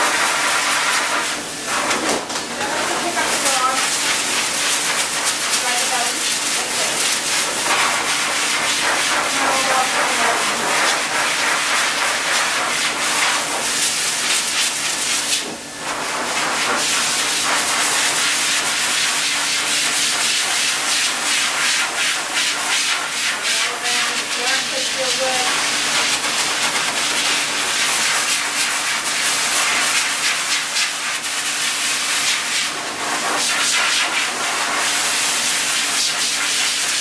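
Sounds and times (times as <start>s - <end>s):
dryer blowing air: 0.0s - 37.0s.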